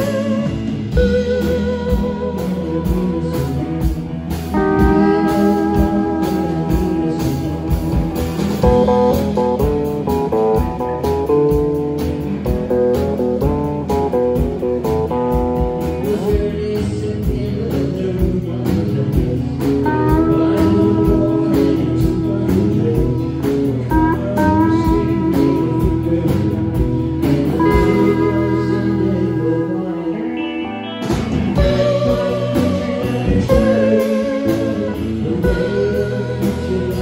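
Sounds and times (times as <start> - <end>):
drum kit beat: 0.0 - 29.6, 31.0 - 37.0
electric guitar melody: 0.0 - 37.0
higher guitar line: 0.0 - 37.0.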